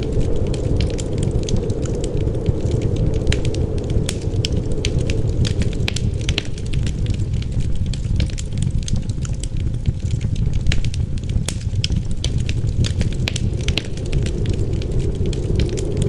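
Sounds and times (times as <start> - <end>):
low rumble of wind: 0.0 - 16.0
wood fire crackling and popping: 0.0 - 16.0.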